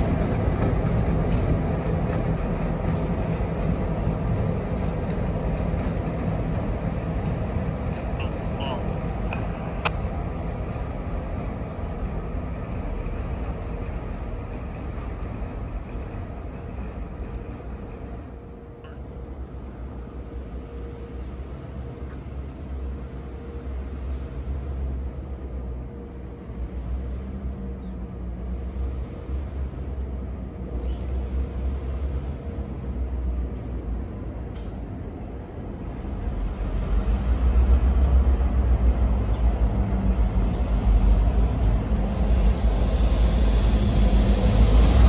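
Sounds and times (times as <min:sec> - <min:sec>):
locomotive engine rumble: 0:00.0 - 0:45.0
railcars rolling: 0:00.0 - 0:45.0.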